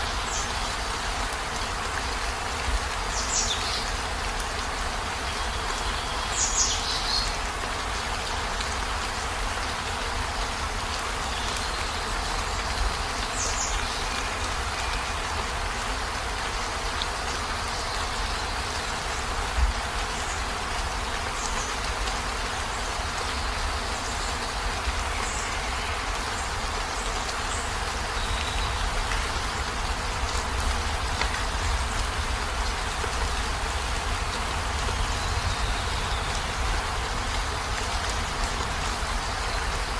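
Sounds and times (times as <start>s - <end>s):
heavy rain on a vehicle roof: 0.0s - 39.9s.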